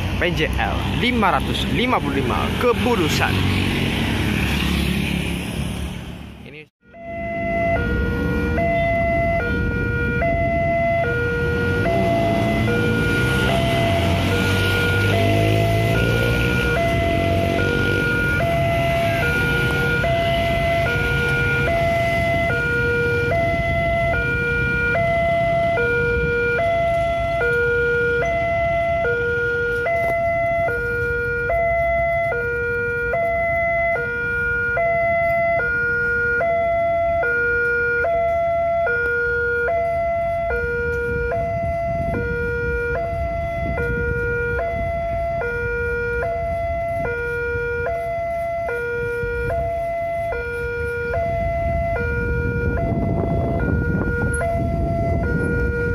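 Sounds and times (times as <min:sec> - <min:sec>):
road traffic rumble: 0:00.0 - 0:55.9
level crossing two-tone alarm: 0:06.8 - 0:55.9.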